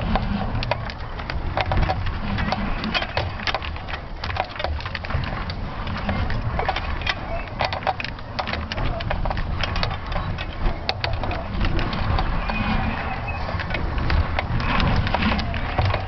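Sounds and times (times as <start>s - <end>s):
payload rattling and creaking: 0.0s - 16.0s
wind rumbling on microphone: 0.0s - 16.0s.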